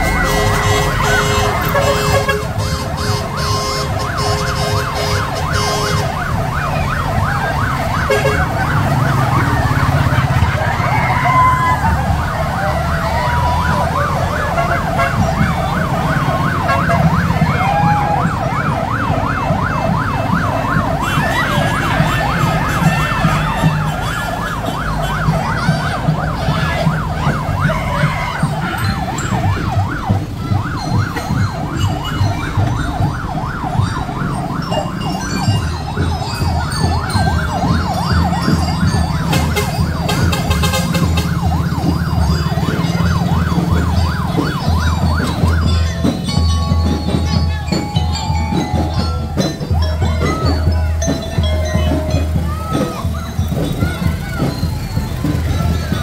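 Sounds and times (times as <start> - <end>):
siren yelping: 0.0 - 56.0.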